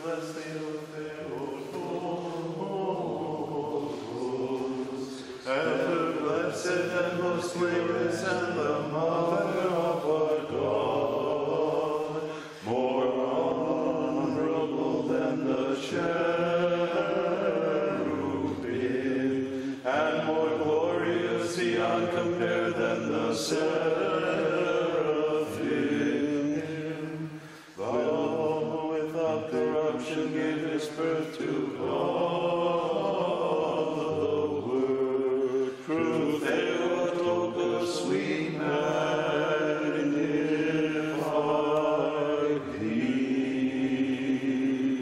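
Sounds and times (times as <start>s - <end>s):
voices chanting a hymn: 0.0s - 45.0s.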